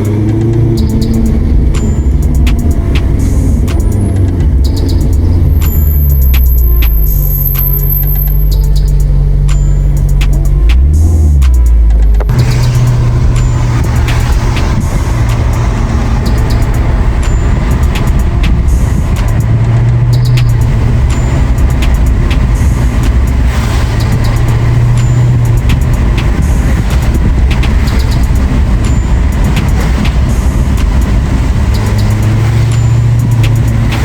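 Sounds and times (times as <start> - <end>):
car engine droning: 0.0 - 34.0
road noise: 0.0 - 34.0.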